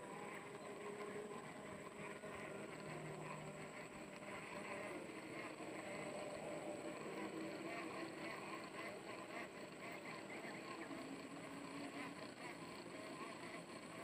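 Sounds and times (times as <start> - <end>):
low motor-like hum: 0.0 - 14.0.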